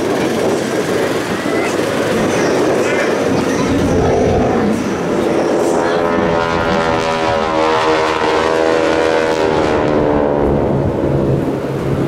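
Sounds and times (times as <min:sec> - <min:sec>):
propeller airplanes droning overhead: 0:00.0 - 0:12.0.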